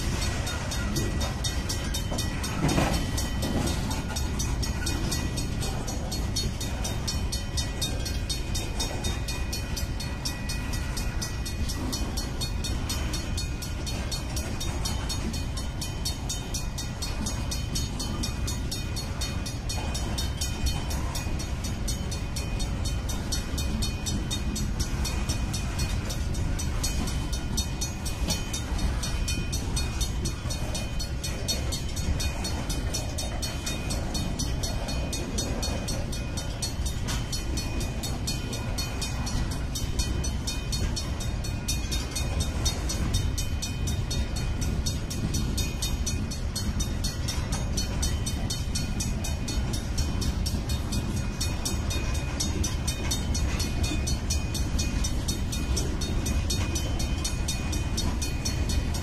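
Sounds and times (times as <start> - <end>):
crossing signal bell ringing: 0.0 - 59.0
train wheels rumbling on rails: 0.0 - 59.0.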